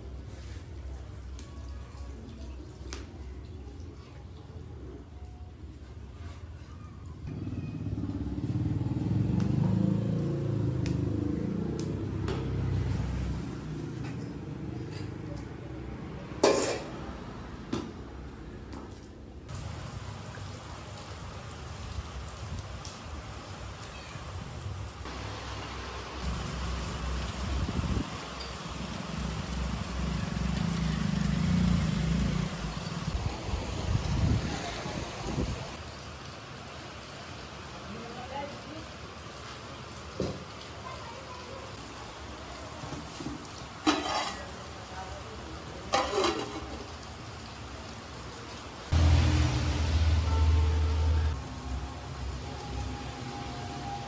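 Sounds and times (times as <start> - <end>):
rain falling on wet ground: 0.2 - 3.9, 6.7 - 15.6, 19.5 - 54.0.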